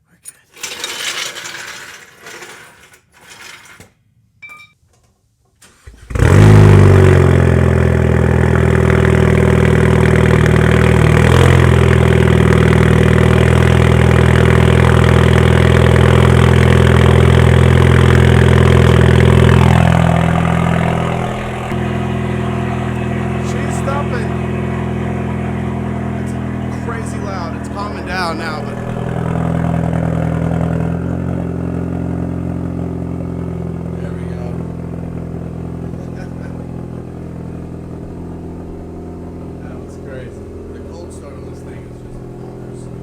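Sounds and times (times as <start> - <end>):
car engine fast idle: 5.6 - 43.0.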